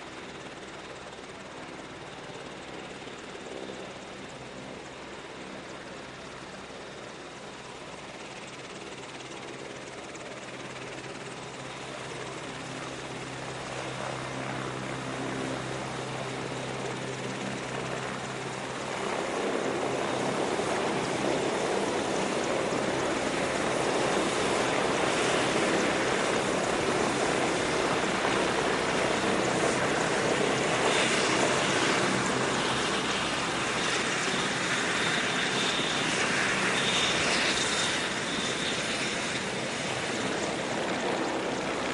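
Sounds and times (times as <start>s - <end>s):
helicopter turbines and rotors: 0.0s - 41.9s.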